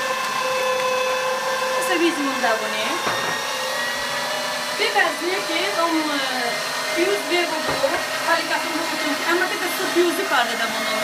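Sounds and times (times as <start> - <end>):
electric meat grinder running: 0.0 - 11.0.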